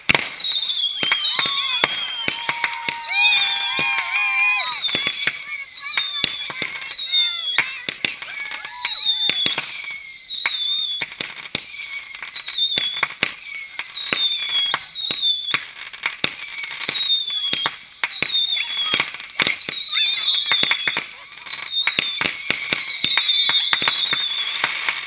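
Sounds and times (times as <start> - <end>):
fireworks bangs and crackling: 0.0 - 25.0
fireworks whistling: 0.0 - 25.0.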